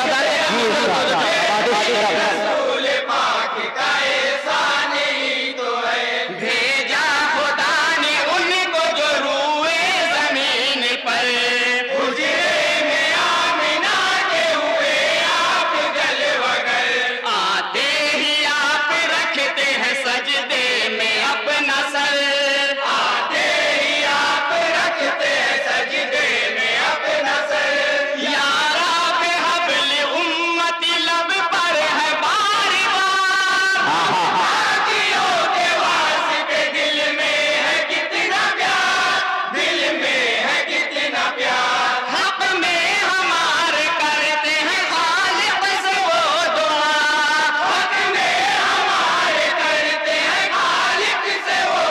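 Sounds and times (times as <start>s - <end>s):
men chanting over loudspeakers: 0.0s - 51.9s.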